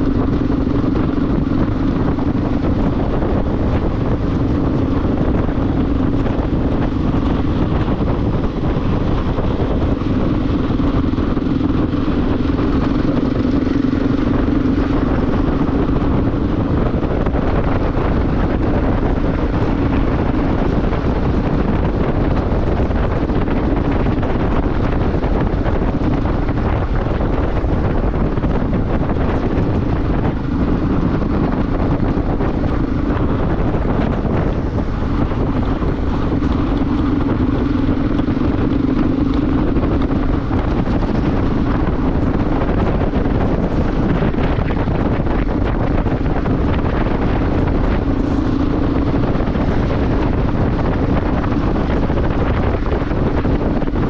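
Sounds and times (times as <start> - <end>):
motorcycle engine drone: 0.0 - 54.0
wind rush on microphone: 0.0 - 54.0.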